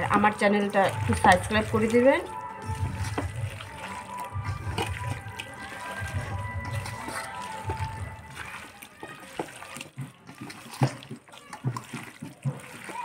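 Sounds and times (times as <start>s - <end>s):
hand squelching in wet meat: 0.0s - 13.0s.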